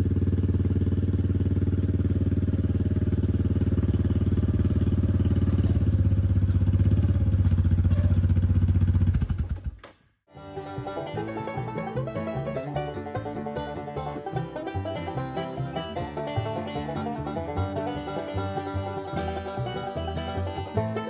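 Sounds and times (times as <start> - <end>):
atv engine running: 0.0 - 9.8, 12.2 - 21.0.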